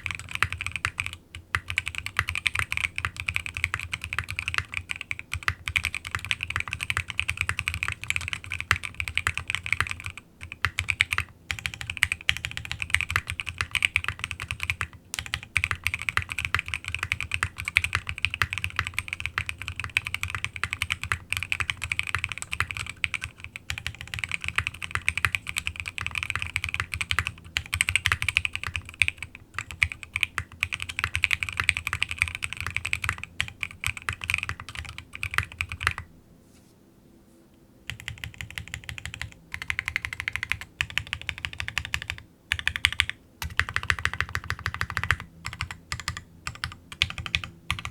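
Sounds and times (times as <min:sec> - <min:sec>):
fast mechanical keyboard typing: 0:00.0 - 0:36.0, 0:37.9 - 0:47.9.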